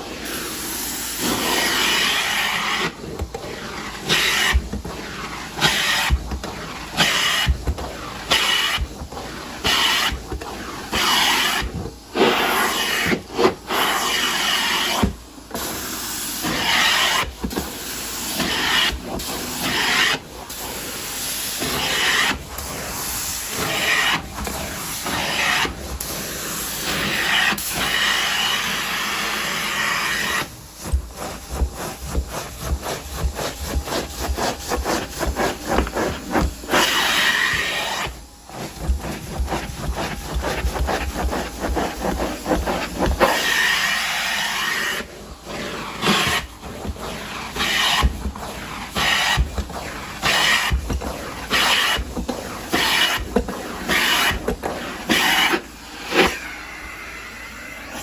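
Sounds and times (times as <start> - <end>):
carpet cleaner rubbing strokes: 0.0 - 58.0.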